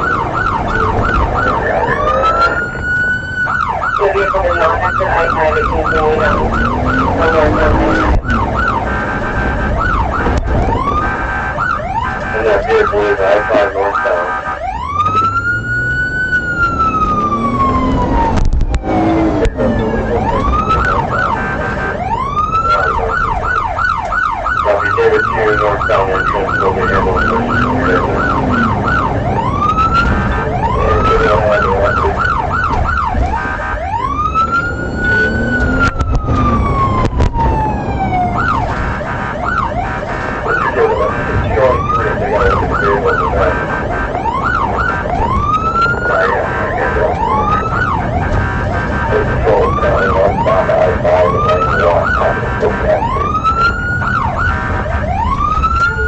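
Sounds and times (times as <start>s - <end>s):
police car siren: 0.0s - 56.0s
road noise: 0.0s - 56.0s.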